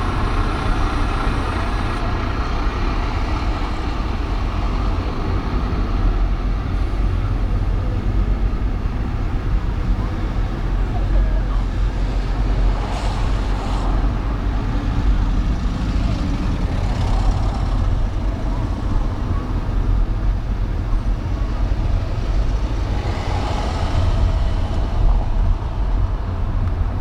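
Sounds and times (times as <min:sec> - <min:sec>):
car engines and tyres rumbling: 0:00.0 - 0:27.0.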